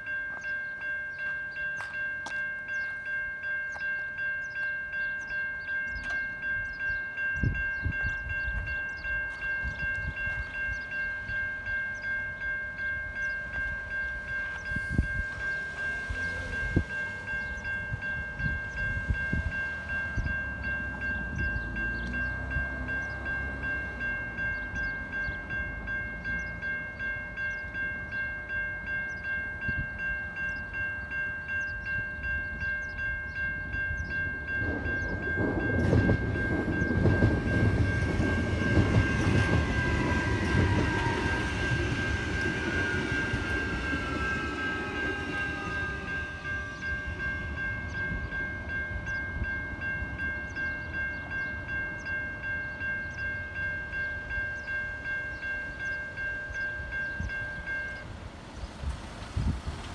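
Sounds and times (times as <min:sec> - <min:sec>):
level crossing bells ringing: 0:00.0 - 0:58.3.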